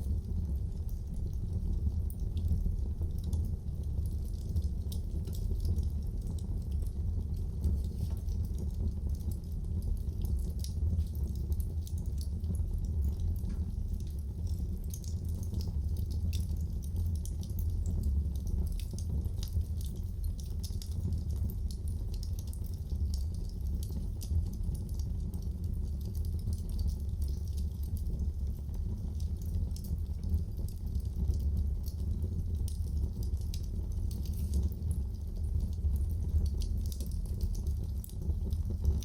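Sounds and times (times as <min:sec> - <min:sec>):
wood fire crackling in fireplace: 0:00.0 - 0:39.0.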